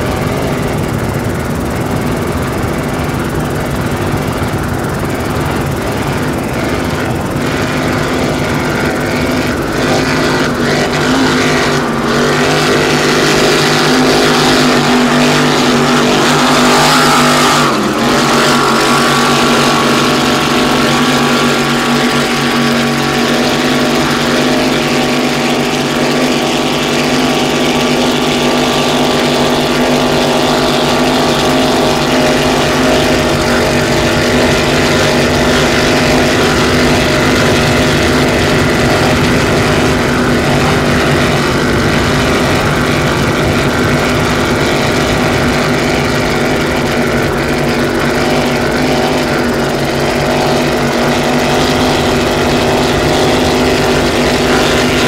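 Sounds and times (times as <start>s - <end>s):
loud engine drone: 0.0s - 55.0s.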